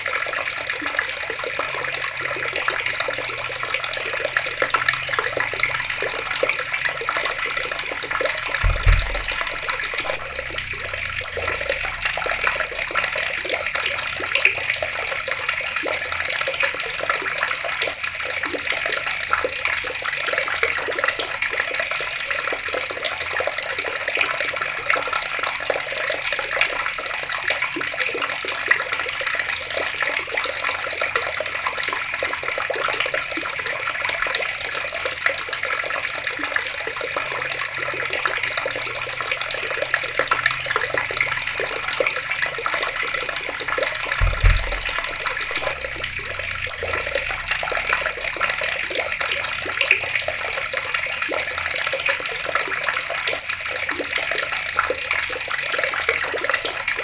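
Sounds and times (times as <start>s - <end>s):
water pouring from tap: 0.0s - 57.0s.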